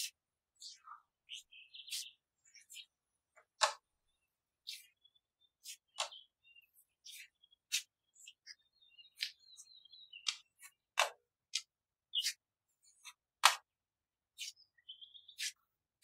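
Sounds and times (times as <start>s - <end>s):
hands shaping dough on stone: 0.0s - 16.0s.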